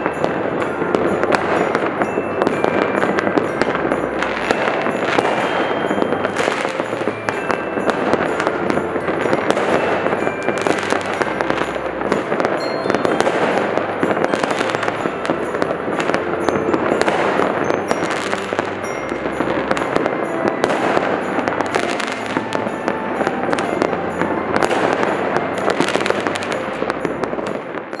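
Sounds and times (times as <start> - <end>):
fireworks crackling and banging: 0.0 - 28.0
instrumental background music: 0.0 - 28.0.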